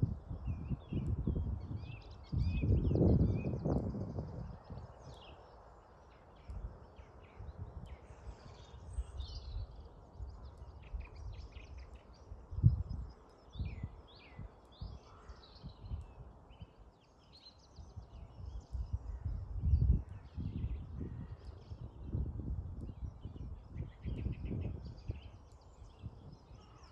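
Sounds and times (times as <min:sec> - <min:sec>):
wind buffeting microphone: 0:00.0 - 0:26.9
songbirds chirping and singing: 0:00.1 - 0:26.9.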